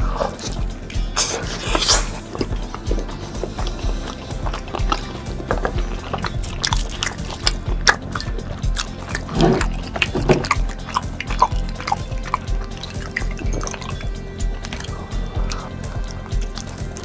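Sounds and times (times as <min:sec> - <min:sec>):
background music with low beat: 0:00.0 - 0:17.0
crunchy bites and chewing: 0:00.0 - 0:17.0.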